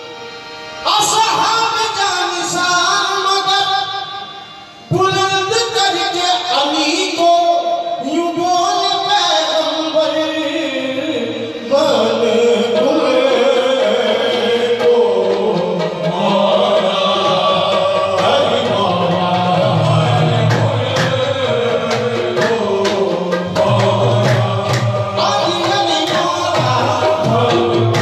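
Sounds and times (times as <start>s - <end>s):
harmoniums playing: 0.0s - 28.0s
men singing: 4.9s - 28.0s.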